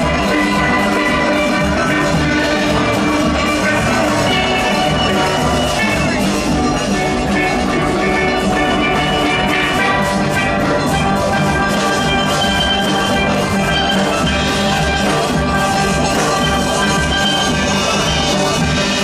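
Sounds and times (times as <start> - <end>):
drum and percussion rhythm: 0.0 - 19.0
steel pans playing melody: 0.0 - 19.0.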